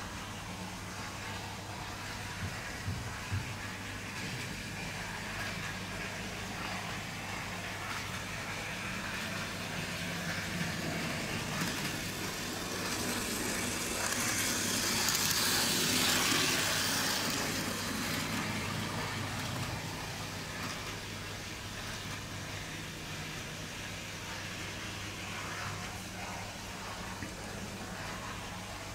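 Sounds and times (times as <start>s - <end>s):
model train motor and wheels hissing: 0.0s - 28.9s.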